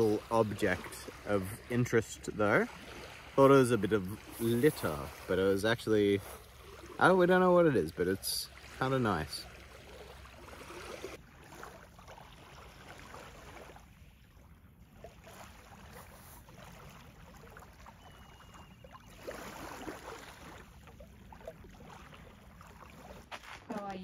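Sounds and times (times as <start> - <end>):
small waves lapping: 0.0 - 24.0.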